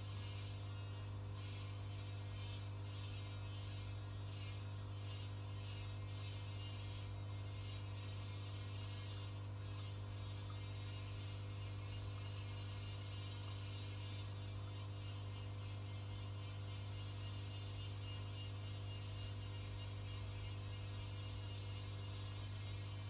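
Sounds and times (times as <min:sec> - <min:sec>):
electric hum of aquarium equipment: 0:00.0 - 0:23.0.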